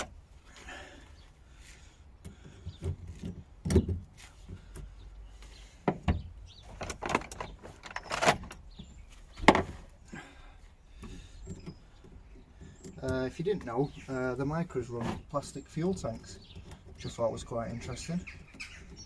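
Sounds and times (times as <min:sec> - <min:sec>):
hand tools clunking on metal: 0:02.2 - 0:19.0.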